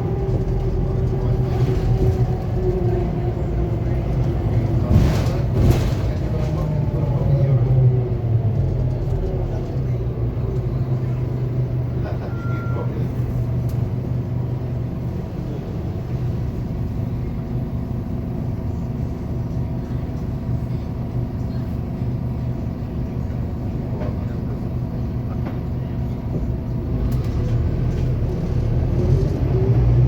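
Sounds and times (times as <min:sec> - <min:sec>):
bus engine whine: 0:00.0 - 0:30.0.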